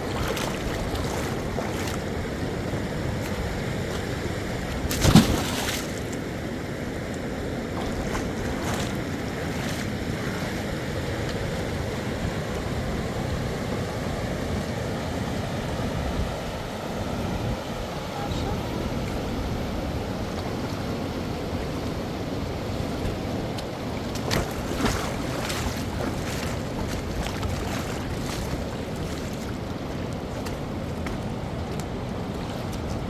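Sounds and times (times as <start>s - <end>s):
flowing water rushing: 0.0s - 33.0s.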